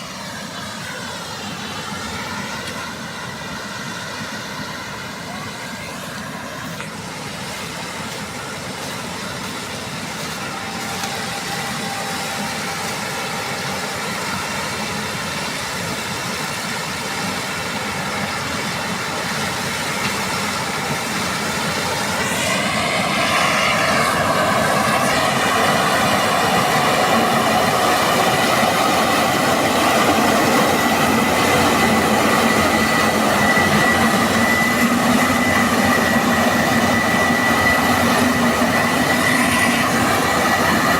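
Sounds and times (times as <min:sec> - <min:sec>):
combine harvester running: 0:00.0 - 0:40.9
steady high-pitched tone: 0:00.0 - 0:40.9
wavering whine: 0:00.0 - 0:40.9.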